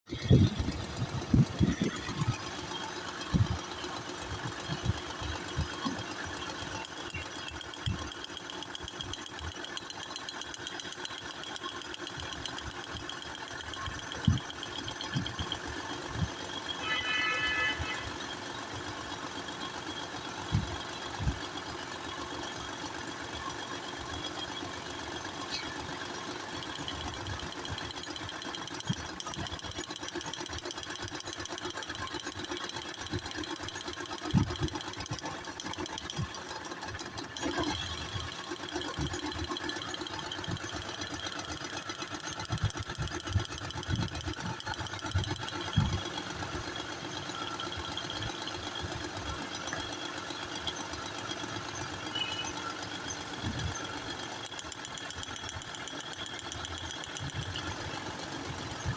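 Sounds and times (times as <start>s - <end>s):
fast steady ticking: 0.1s - 58.9s
car engine idling: 0.3s - 16.4s, 25.9s - 58.9s.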